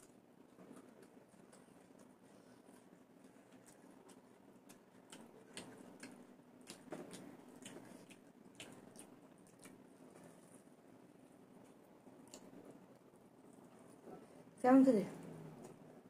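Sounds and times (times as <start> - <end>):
chewing clicks and smacks: 0.0 - 10.6, 11.2 - 14.0.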